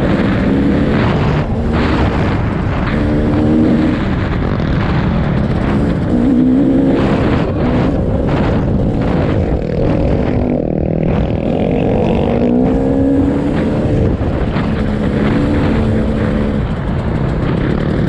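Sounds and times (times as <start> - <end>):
heavy low rumble: 0.0 - 18.0.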